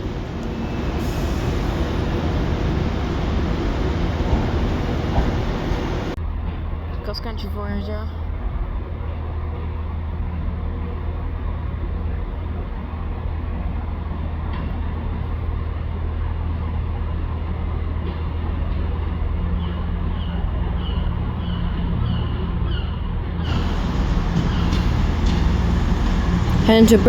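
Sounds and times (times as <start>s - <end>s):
diesel train engine hum: 0.0s - 27.0s.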